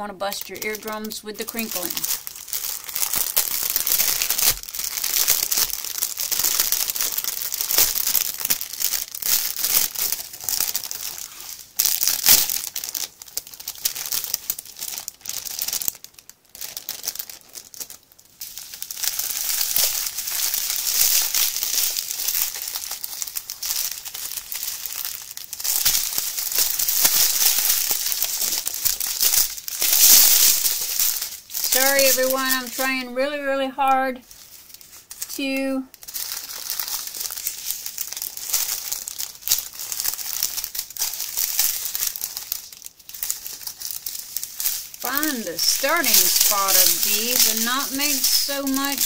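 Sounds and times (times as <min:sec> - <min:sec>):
cellophane wrap crinkling: 0:00.0 - 0:49.0.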